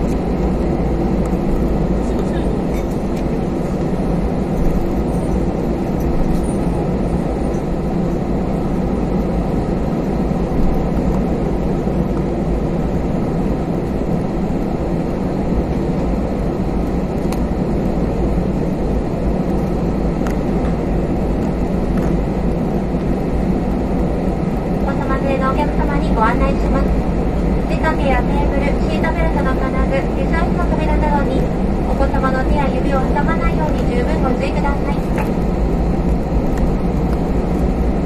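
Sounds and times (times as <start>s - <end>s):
jet engines humming: 0.0s - 38.0s.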